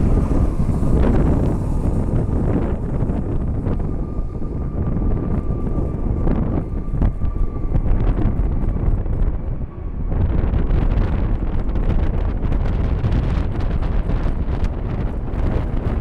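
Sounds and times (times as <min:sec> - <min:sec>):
faint steady whine: 0:00.0 - 0:16.0
wind buffeting microphone: 0:00.0 - 0:16.0.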